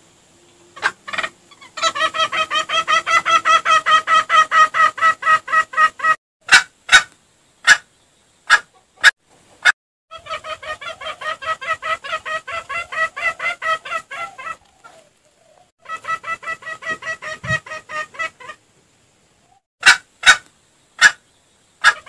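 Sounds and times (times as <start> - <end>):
junglefowl clucking: 0.7 - 7.9, 8.5 - 18.6, 19.4 - 21.2, 21.8 - 22.0.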